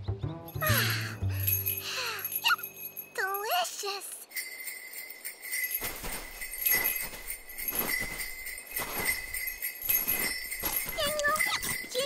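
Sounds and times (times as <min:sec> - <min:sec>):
small bell jingling: 0:00.6 - 0:12.0.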